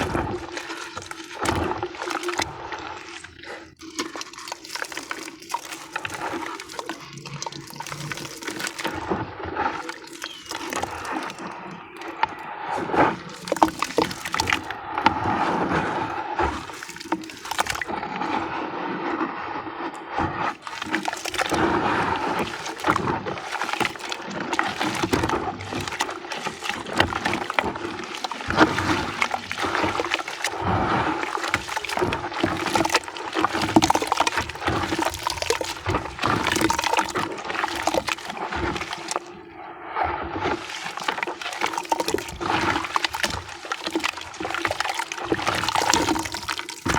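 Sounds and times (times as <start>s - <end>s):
discs crumbling in water: 0.0s - 18.5s, 20.4s - 39.4s, 40.4s - 46.9s.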